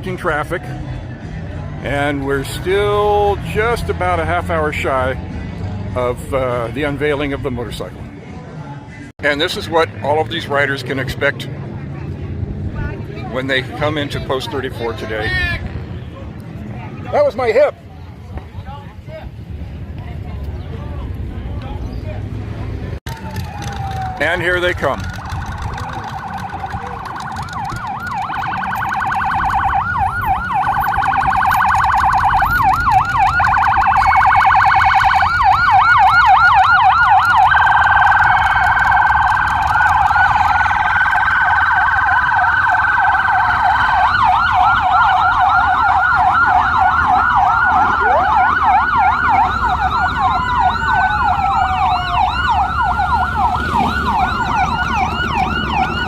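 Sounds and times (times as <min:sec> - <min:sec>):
emergency sirens yelping and wailing: 0:00.0 - 0:56.0.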